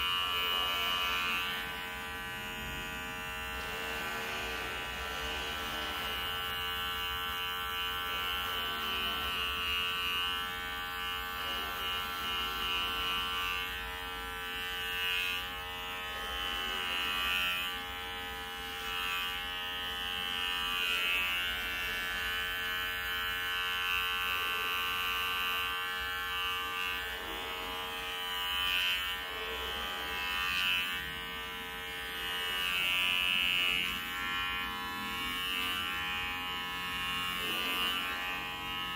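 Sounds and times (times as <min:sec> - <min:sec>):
electric hair clippers buzzing: 0:00.0 - 0:38.9.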